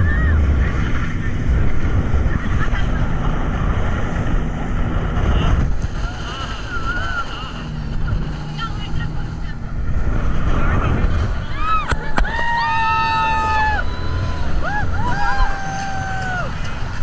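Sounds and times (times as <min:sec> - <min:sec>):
boat engine: 0:00.0 - 0:17.0
water noise: 0:00.0 - 0:17.0
wind buffeting microphone: 0:00.0 - 0:17.0.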